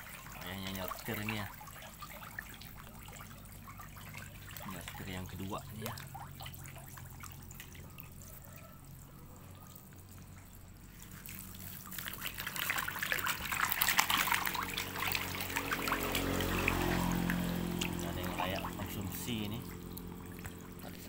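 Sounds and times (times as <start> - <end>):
fish splashing at surface: 0.0 - 21.0
trickling water: 0.0 - 21.0.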